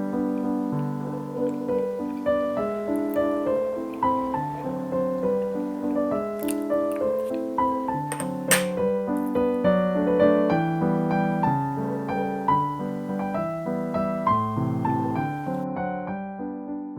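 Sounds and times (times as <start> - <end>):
solo piano music: 0.0 - 16.9.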